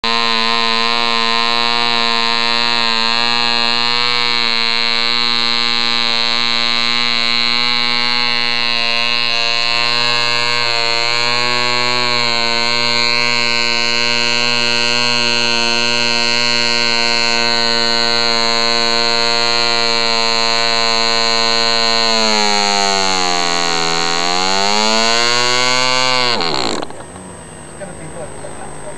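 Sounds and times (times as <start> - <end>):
small engine buzzing: 0.0 - 28.9.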